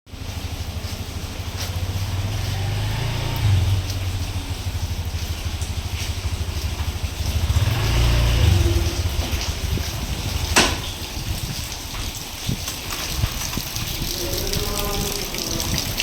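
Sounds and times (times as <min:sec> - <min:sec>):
low fluttering rumble: 0:00.1 - 0:16.0
rain falling: 0:00.1 - 0:16.0.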